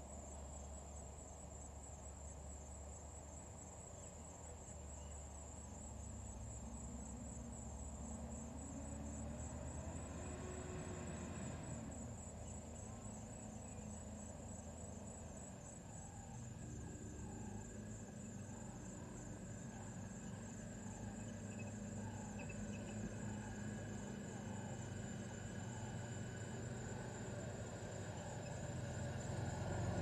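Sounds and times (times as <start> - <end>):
insects chirping: 0.0 - 30.0.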